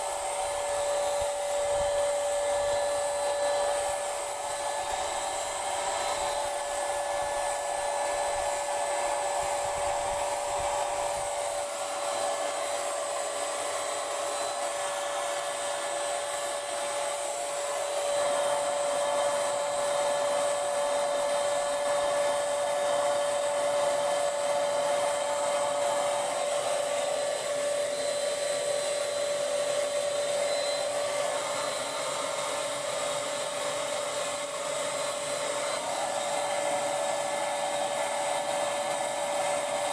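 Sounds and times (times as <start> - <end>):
electric paint sprayer running: 0.0 - 39.9.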